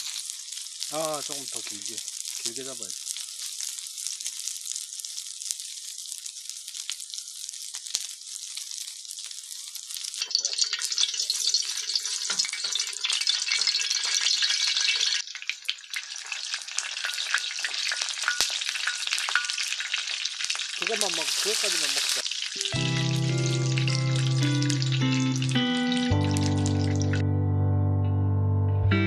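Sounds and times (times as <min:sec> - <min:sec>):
food sizzling in a pan: 0:00.0 - 0:27.2.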